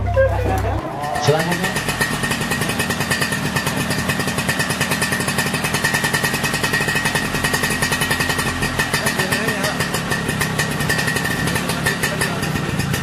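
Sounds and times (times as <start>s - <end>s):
motor scooter engine running: 0.0s - 13.0s.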